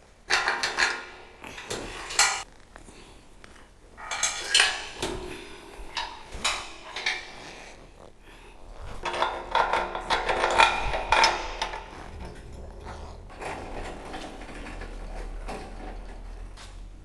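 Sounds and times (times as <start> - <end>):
metal clanks and scrapes: 0.3 - 2.5, 4.0 - 7.7, 8.9 - 16.9.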